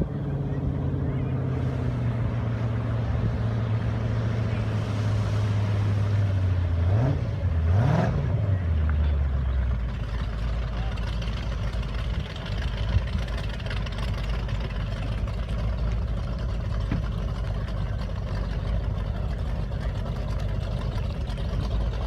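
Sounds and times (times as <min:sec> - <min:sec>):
boat engine idling: 0:00.0 - 0:07.7, 0:08.4 - 0:22.0.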